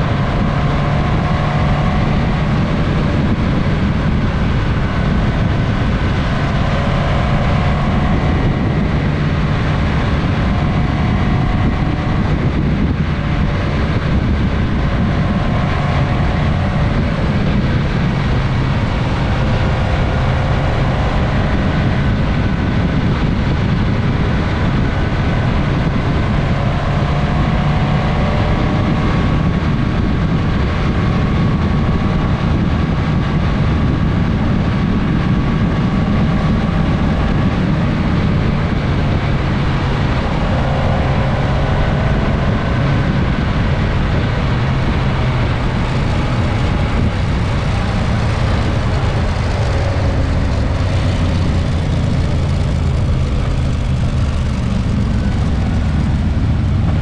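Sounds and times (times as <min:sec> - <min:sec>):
distant motorcycle engines: 0:00.0 - 0:57.0
motorcycle engine running: 0:00.0 - 0:57.0
road noise: 0:00.0 - 0:57.0
wind noise: 0:00.0 - 0:57.0.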